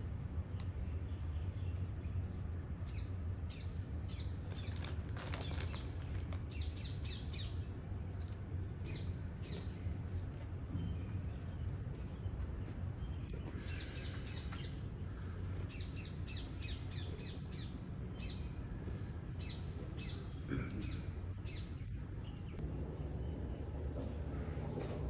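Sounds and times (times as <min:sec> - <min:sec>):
steady low rumble: 0:00.0 - 0:25.0
birds chirping: 0:00.4 - 0:25.0.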